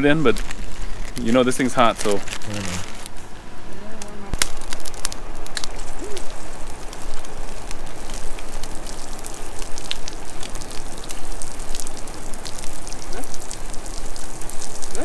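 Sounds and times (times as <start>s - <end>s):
campfire crackling and popping: 0.0s - 3.2s, 4.0s - 15.0s.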